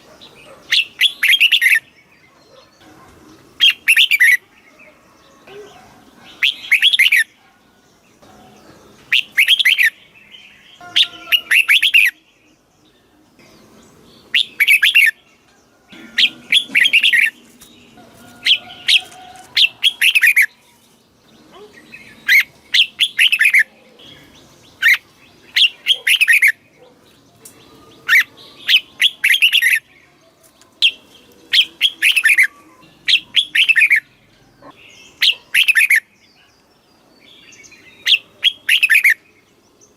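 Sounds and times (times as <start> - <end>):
bird singing warbling phrases: 0.0 - 7.5, 8.1 - 39.9.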